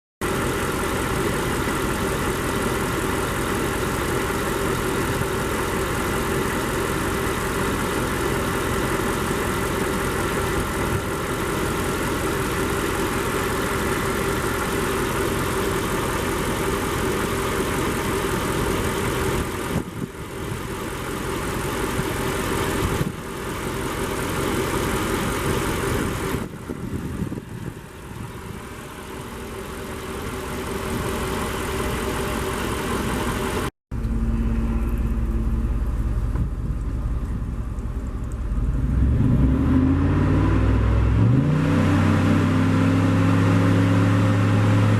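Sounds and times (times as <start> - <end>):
car engine running: 0.2 - 44.9.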